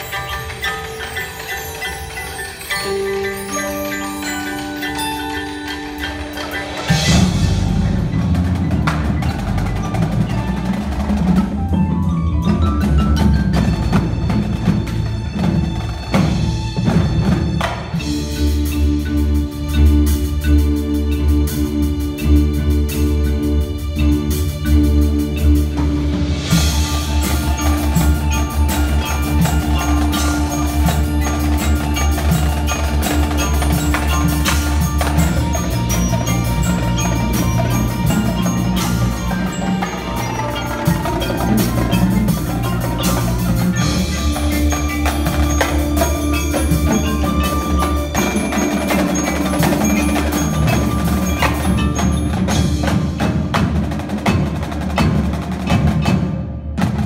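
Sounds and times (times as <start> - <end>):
drum kit: 0.0 - 57.0
marching drums: 0.0 - 57.0
marimbas playing rapid notes: 0.0 - 57.0.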